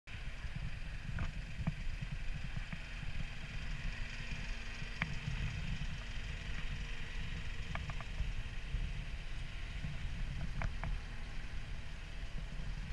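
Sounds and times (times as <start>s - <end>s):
faint steady hum: 0.1s - 12.9s
wind buffeting microphone: 0.2s - 12.9s.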